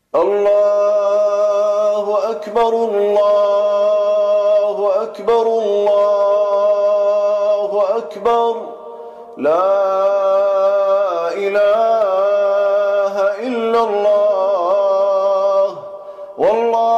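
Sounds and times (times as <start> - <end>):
man reciting melodically: 0.0 - 16.9.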